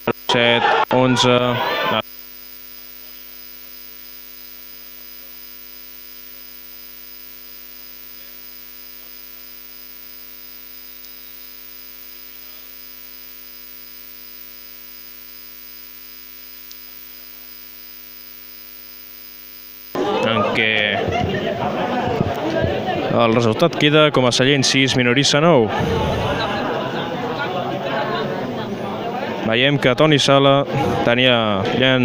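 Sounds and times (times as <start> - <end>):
electrical hum and buzz: 0.0 - 32.0.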